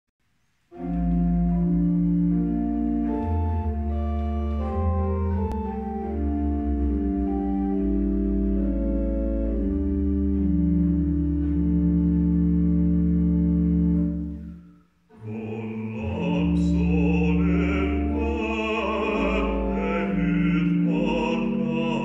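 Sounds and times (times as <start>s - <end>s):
pipe organ playing hymn: 0.7s - 22.0s.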